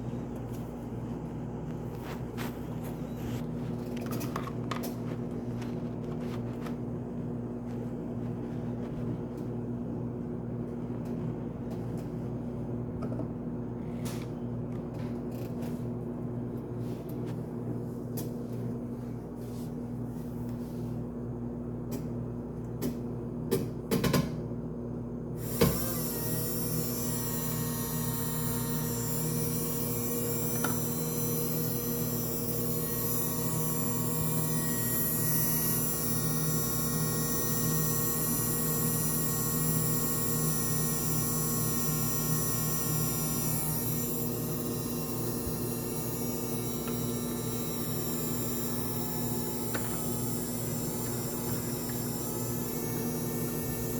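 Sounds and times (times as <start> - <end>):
washing machine motor hum: 0.0 - 53.9.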